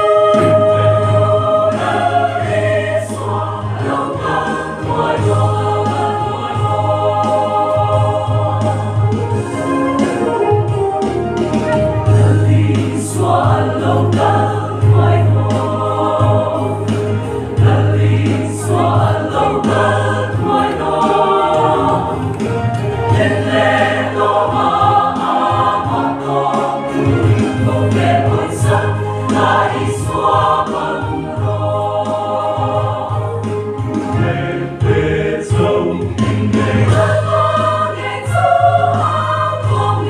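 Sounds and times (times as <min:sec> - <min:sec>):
choir singing a hymn: 0:00.0 - 0:40.0.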